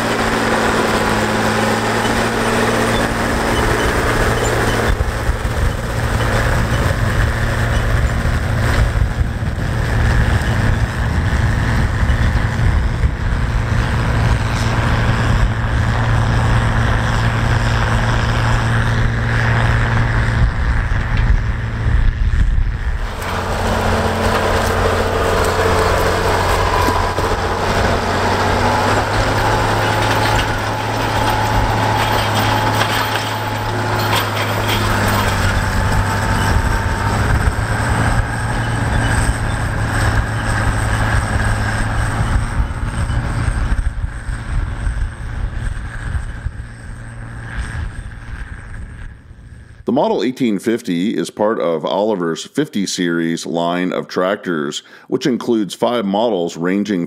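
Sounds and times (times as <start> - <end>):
tractor diesel engine under load: 0.0 - 51.1.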